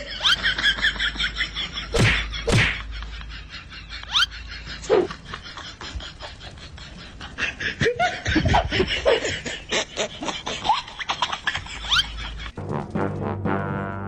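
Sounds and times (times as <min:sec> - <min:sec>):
people laughing: 0:00.0 - 0:12.6.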